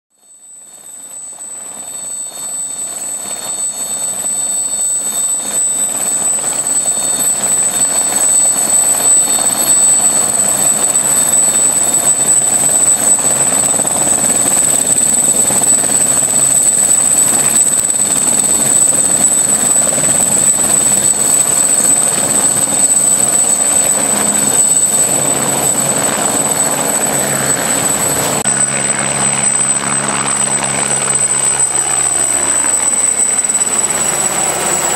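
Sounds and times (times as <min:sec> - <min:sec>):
helicopter turbine whine: 0:00.2 - 0:34.9
helicopter rotor rushing: 0:00.5 - 0:34.9.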